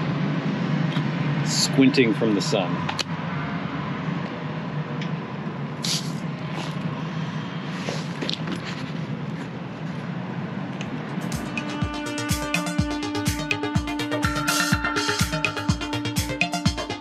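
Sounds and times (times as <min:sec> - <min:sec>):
street traffic hum: 0:00.0 - 0:17.0.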